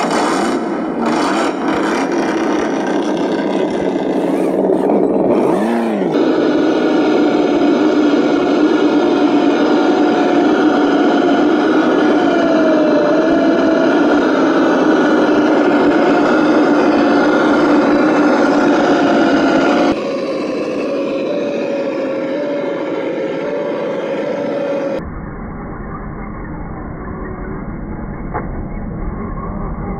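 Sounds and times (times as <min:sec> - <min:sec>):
toy car motor humming: 0:01.0 - 0:25.0.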